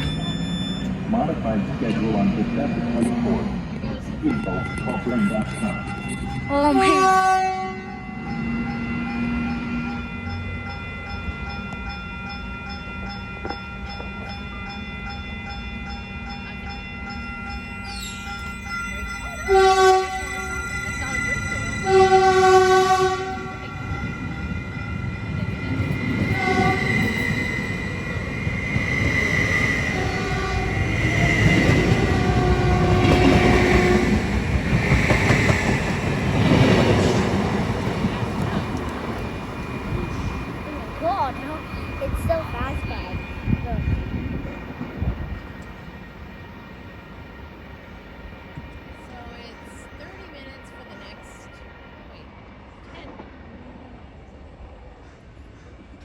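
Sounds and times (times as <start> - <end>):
steady high tones: 0.0 - 7.0, 7.9 - 22.3, 23.3 - 52.2
crossing warning bell ringing: 0.0 - 52.4
train rumbling past: 0.0 - 56.0.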